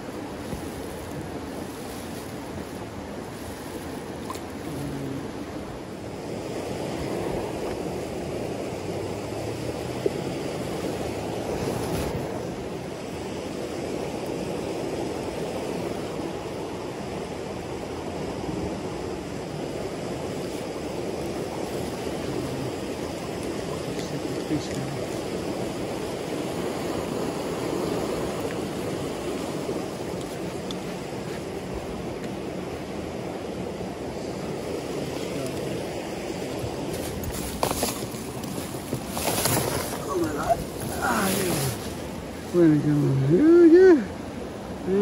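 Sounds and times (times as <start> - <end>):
stream flowing over rocks: 0.0 - 45.0.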